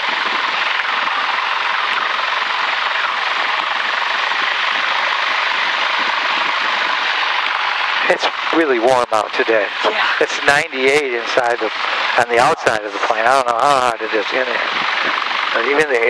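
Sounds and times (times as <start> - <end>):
plane engine and propeller drone: 0.0 - 16.0.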